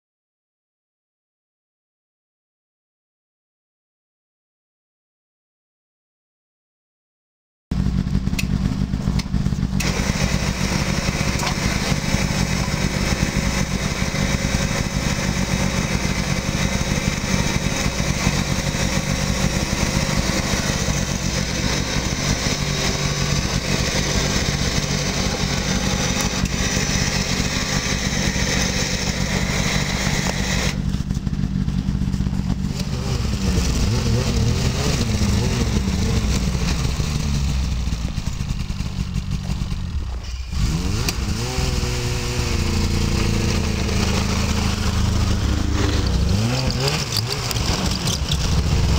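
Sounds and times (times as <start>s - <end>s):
engine running: 7.7s - 48.9s
snowmobile engine: 7.8s - 48.9s.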